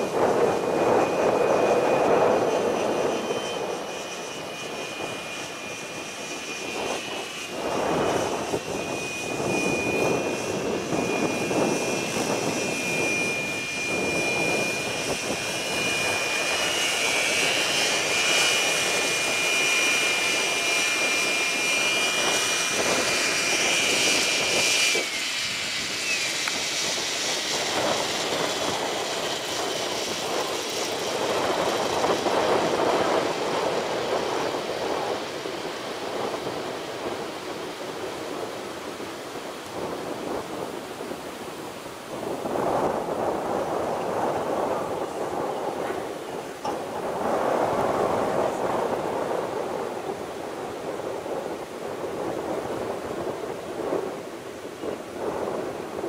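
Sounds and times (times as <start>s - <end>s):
rc helicopter motor whining: 0.0s - 56.0s
wind buffeting microphone: 0.0s - 56.0s.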